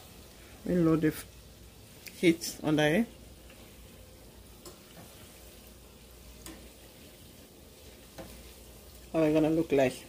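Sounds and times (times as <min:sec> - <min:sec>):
oil sizzling and bubbling: 0:00.0 - 0:10.0.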